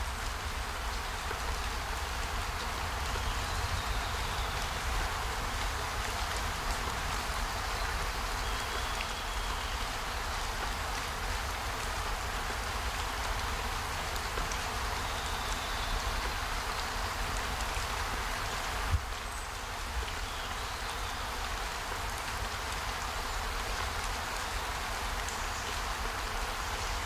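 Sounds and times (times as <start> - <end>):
rushing water: 0.0 - 27.0.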